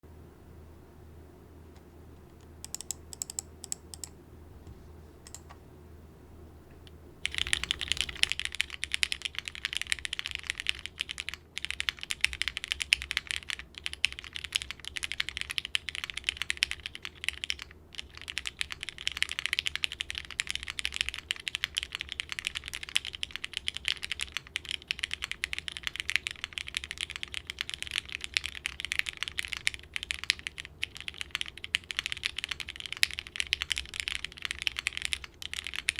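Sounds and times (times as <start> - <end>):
typing on mechanical keyboard: 2.6 - 4.1, 5.3 - 5.6, 7.2 - 35.9.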